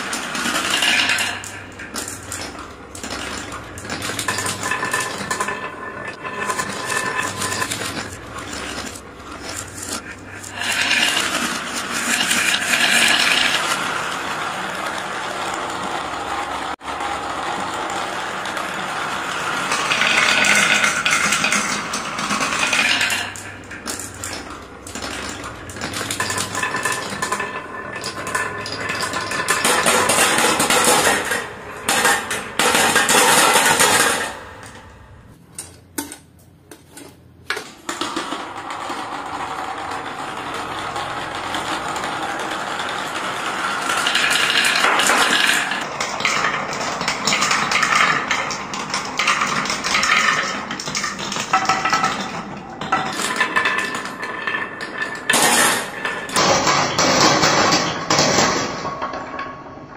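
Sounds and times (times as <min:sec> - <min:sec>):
marbles rolling on plastic chutes: 0:00.0 - 0:35.4, 0:36.9 - 0:59.9.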